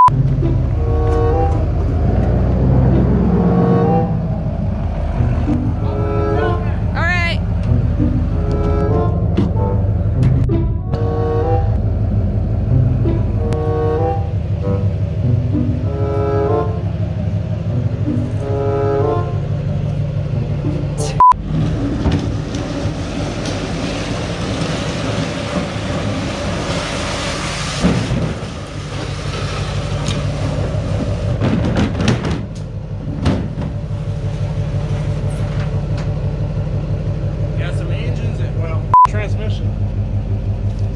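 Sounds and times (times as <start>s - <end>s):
truck engine and road drone: 0.0s - 40.9s.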